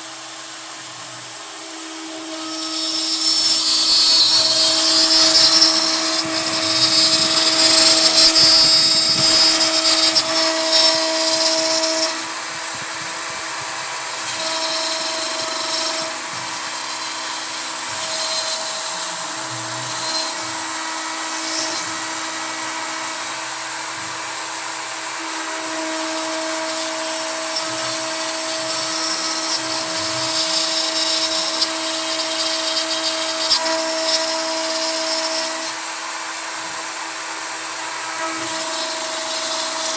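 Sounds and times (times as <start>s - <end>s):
rough wood cutting noise: 0.0s - 39.9s
router spindle whine: 0.0s - 39.9s.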